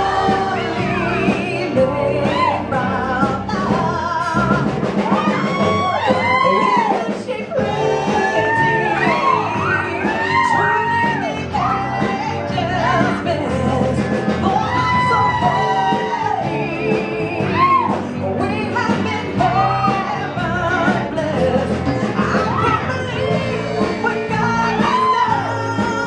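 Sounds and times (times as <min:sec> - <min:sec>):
bass guitar: 0:00.0 - 0:26.0
drums: 0:00.0 - 0:26.0
electric guitar: 0:00.0 - 0:26.0
keyboard: 0:00.0 - 0:26.0
woman singing with vibrato: 0:00.0 - 0:26.0.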